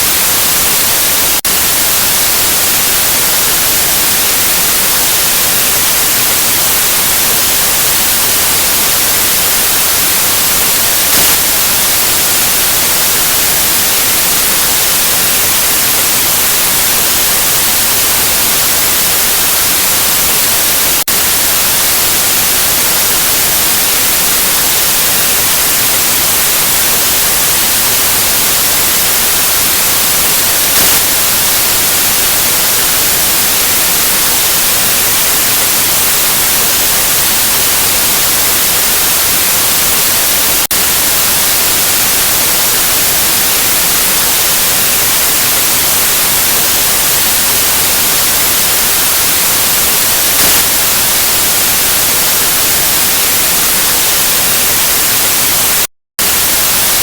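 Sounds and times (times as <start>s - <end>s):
steady white noise: 0.0s - 57.0s.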